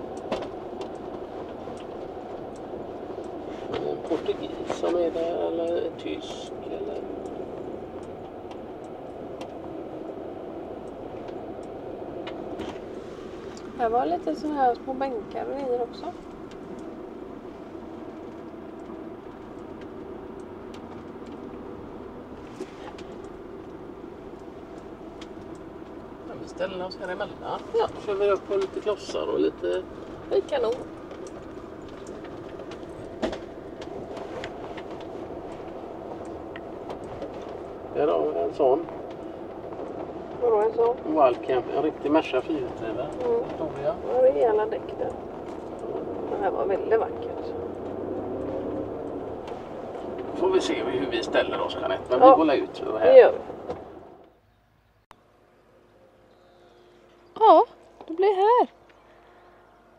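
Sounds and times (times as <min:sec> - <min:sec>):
van engine and tyres humming: 0:00.0 - 0:59.9.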